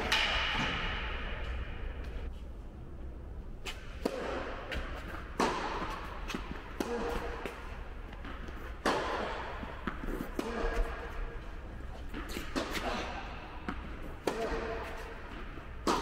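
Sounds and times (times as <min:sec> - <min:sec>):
rackets striking tennis ball: 0:00.0 - 0:02.3, 0:03.6 - 0:16.0.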